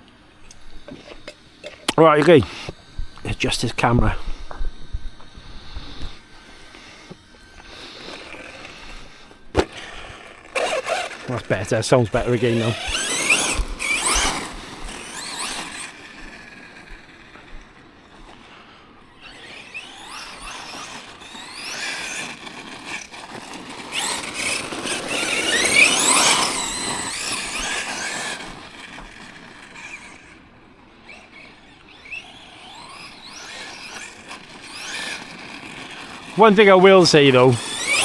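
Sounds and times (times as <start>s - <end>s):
electric motor whining: 0.0s - 38.0s.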